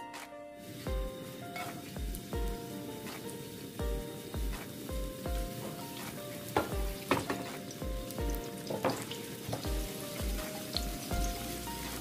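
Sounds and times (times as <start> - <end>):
garlic sizzling in hot oil: 0.6 - 12.0
oil popping: 0.9 - 12.0.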